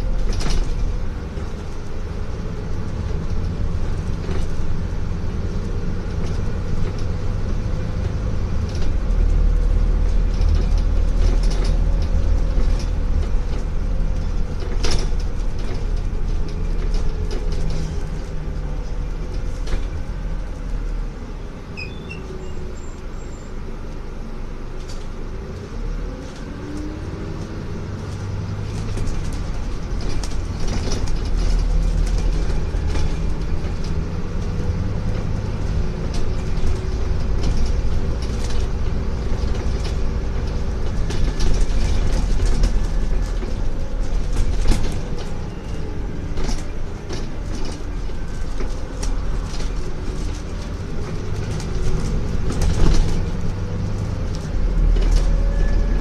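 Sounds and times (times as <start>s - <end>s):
bodywork rattles and clicks: 0.0s - 20.9s, 24.7s - 56.0s
bus engine and road rumble: 0.0s - 56.0s.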